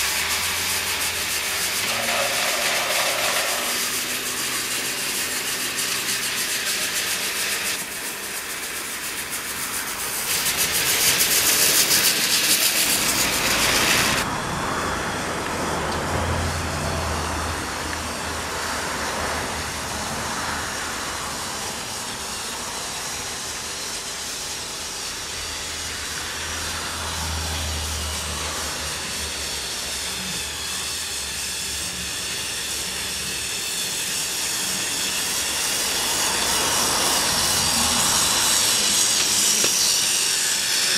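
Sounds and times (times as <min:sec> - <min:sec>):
toy train motors whirring: 0:00.0 - 0:14.3, 0:15.4 - 0:40.9
low hum of locomotive: 0:00.0 - 0:40.9.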